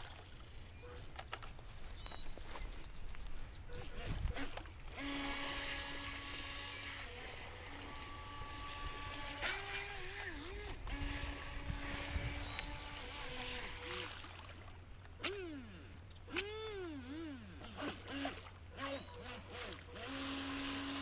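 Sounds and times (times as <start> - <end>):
rc boat motor whine: 2.4 - 21.0.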